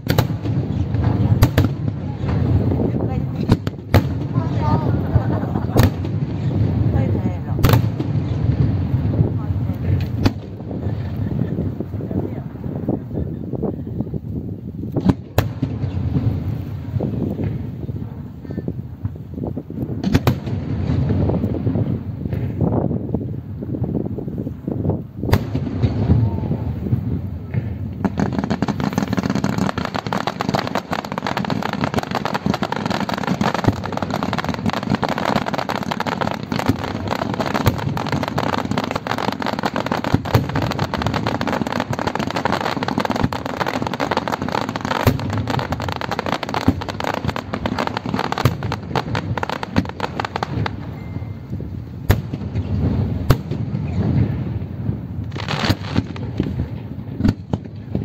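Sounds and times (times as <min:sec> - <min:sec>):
fireworks banging and crackling: 0:00.0 - 0:58.0.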